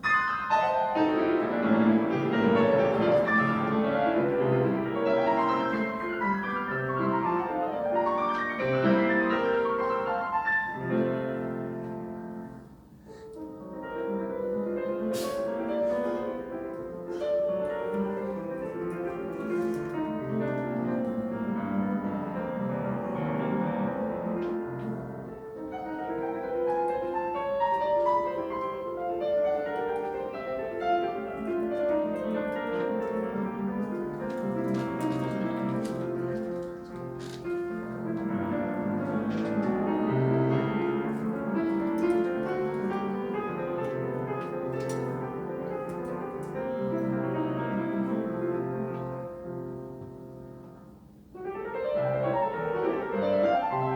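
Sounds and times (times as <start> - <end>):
solo piano classical piece: 0.0 - 53.9.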